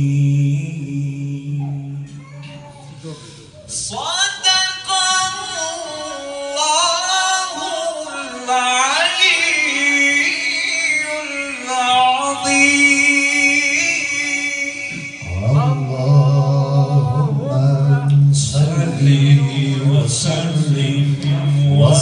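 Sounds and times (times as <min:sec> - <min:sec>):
man singing religious chant: 0:00.0 - 0:02.2, 0:03.7 - 0:22.0.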